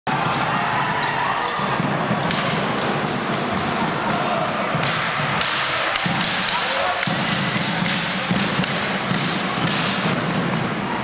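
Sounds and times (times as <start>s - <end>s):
ball bouncing on hall floor: 1.5s - 11.0s.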